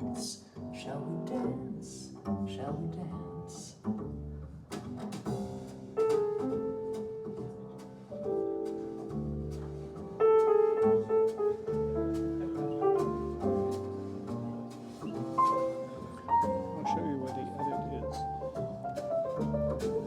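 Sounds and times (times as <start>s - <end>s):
jazz piano chords: 0.0s - 20.0s
walking double bass: 0.0s - 20.0s.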